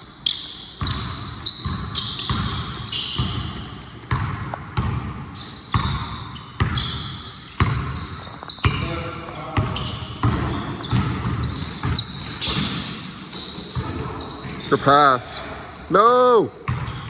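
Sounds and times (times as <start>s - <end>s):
sneaker squeaks: 0.0s - 17.0s
basketball bouncing: 0.8s - 14.7s, 16.7s - 17.0s.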